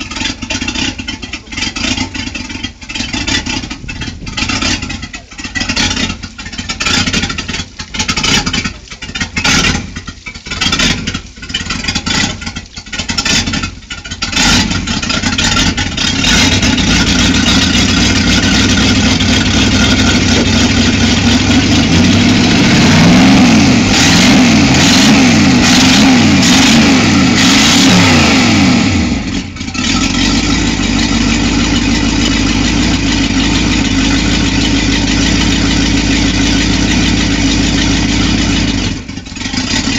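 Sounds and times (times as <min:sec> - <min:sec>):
boat engine surging and revving: 0:00.0 - 0:39.9.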